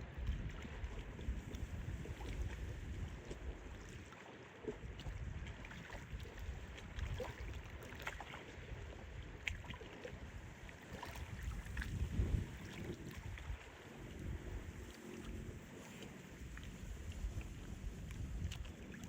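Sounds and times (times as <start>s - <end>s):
wind buffeting microphone: 0.0s - 4.1s, 4.8s - 7.8s, 8.6s - 19.0s
lake water lapping and splashing: 0.0s - 19.0s.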